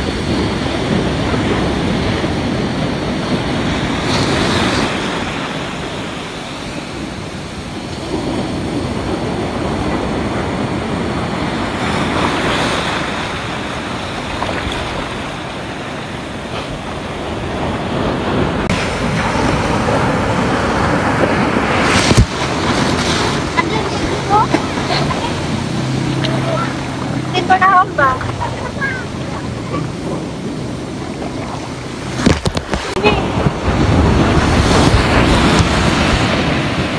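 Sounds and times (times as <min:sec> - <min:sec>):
surf washing through shallows: 0:00.0 - 0:36.9
wave breaking: 0:00.0 - 0:36.9.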